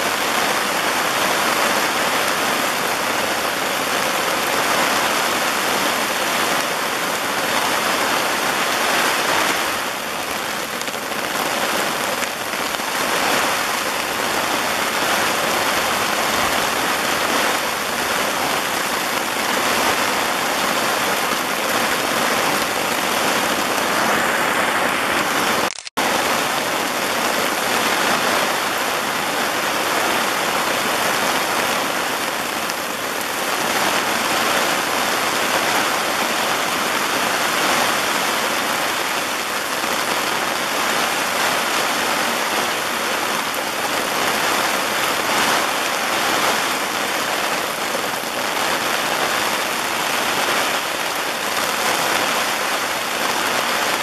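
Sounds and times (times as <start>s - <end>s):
steady rain in forest: 0.0s - 54.0s.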